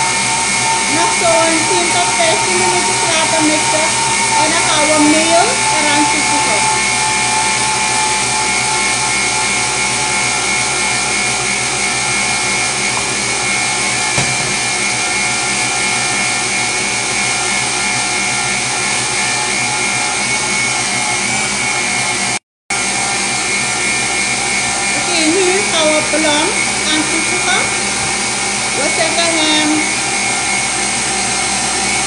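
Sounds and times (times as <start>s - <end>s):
electric mixer whirring: 0.0s - 32.0s.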